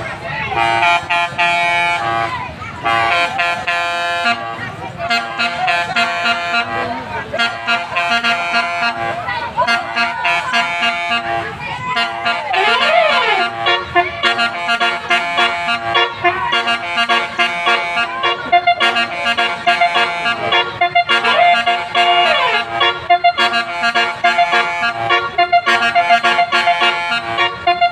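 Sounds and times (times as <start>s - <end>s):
musical bus horn melody: 0.4s - 27.9s.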